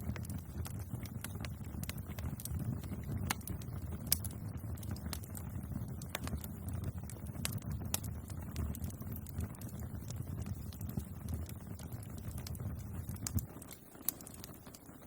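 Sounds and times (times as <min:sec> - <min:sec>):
bonfire flames rumbling: 0:00.0 - 0:15.0
burning wood crackling and popping: 0:00.0 - 0:15.0.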